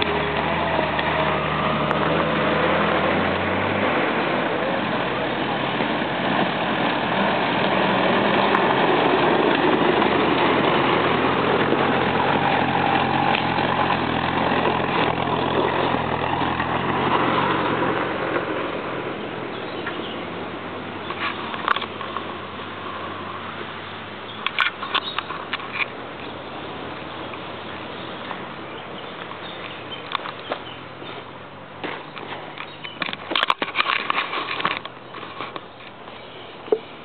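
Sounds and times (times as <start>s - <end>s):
off-road vehicle engines passing: 0.0s - 37.0s
tyres on rocky dirt track: 0.0s - 37.0s.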